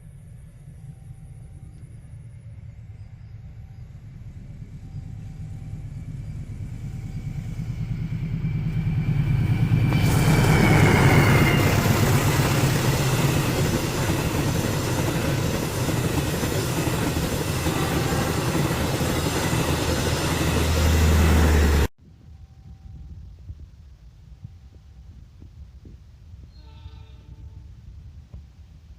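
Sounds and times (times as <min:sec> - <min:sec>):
train passing with rush and clatter: 0:00.0 - 0:28.9.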